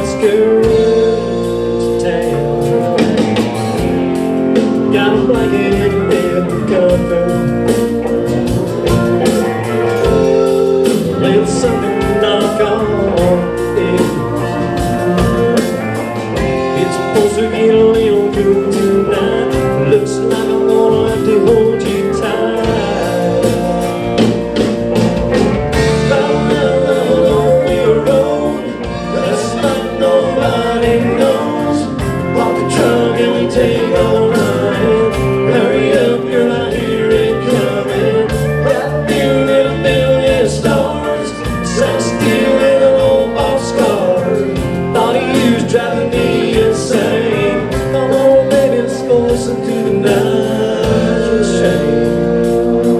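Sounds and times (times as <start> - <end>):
country band playing: 0.0 - 52.9
guitar: 0.0 - 52.9
steady drum beat: 0.0 - 52.9.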